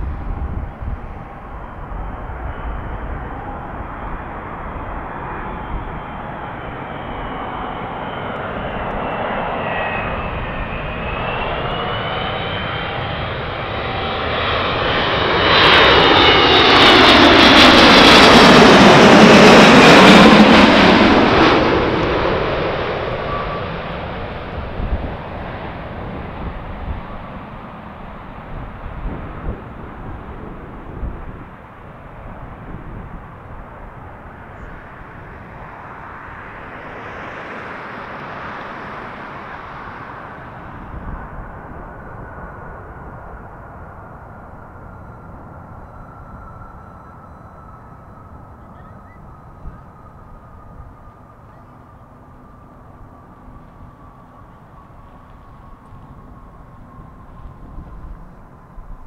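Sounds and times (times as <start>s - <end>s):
jet engines whining overhead: 0.0s - 59.0s.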